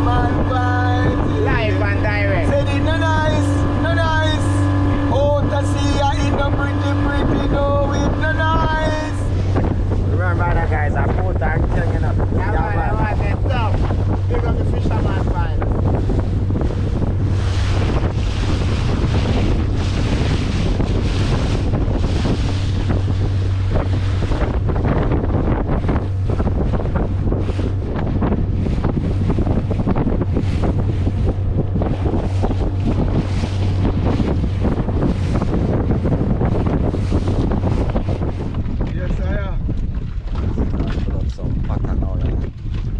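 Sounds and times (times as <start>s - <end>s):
boat engine running: 0.0s - 42.9s
water rushing past hull: 0.0s - 42.9s
wind buffeting microphone: 0.0s - 42.9s.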